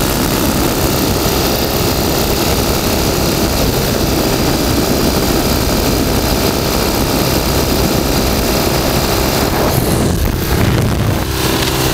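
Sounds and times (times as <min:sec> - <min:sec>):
motorcycle engines running: 0:00.0 - 0:11.9
wind rush on microphone: 0:00.0 - 0:11.9.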